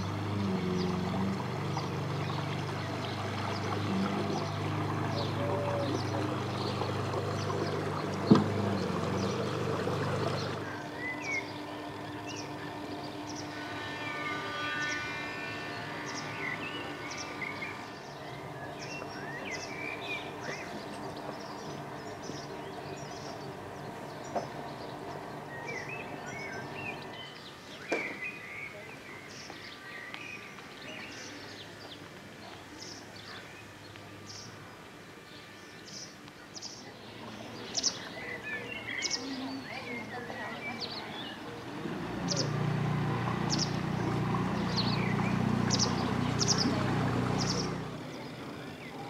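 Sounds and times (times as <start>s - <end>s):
motorboat engine hum: 0.0s - 28.4s, 30.8s - 49.0s
songbirds chirping and singing: 0.0s - 49.0s.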